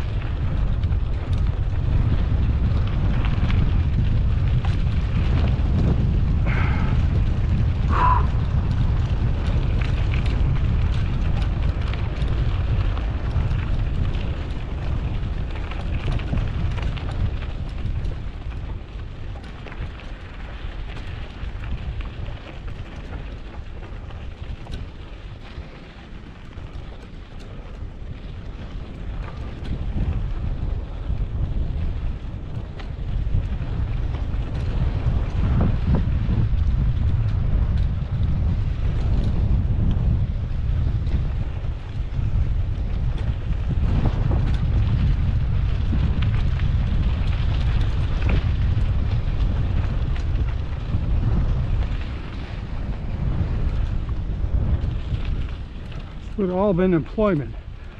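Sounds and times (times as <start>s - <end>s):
bike crackles and rattles: 0.0s - 57.9s
wind buffeting microphone: 0.0s - 57.9s.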